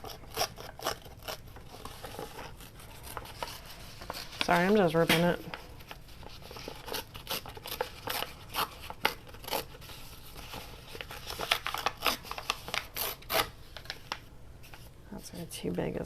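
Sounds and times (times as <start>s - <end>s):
paper tearing: 0.0s - 5.3s, 5.9s - 14.1s.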